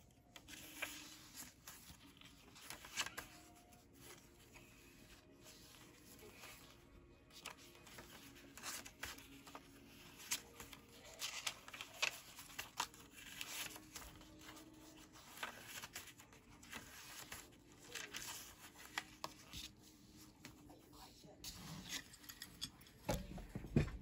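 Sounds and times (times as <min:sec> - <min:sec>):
paper pages rustling: 0:00.0 - 0:23.2.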